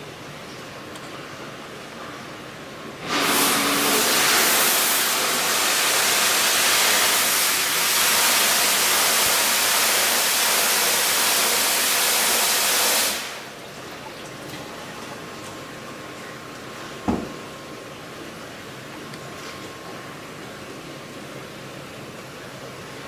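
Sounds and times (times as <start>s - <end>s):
water rushing in a tank: 2.5s - 23.0s.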